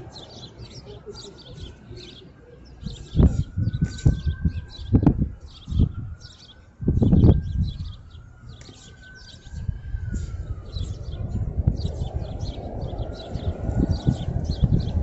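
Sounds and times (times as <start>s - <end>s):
small birds chirping: 0.0s - 15.0s
low rumbles on microphone: 2.7s - 15.0s.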